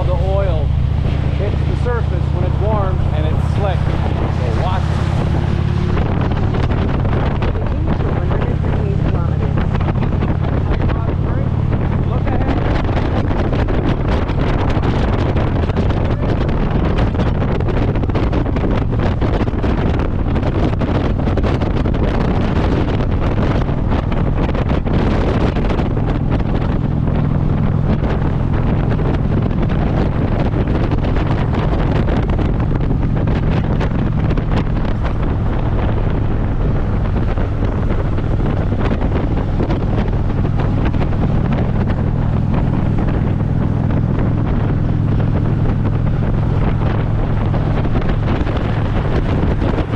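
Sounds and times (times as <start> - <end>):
motorcycle engine drone: 0.0 - 49.9
wind buffeting microphone: 0.0 - 49.9.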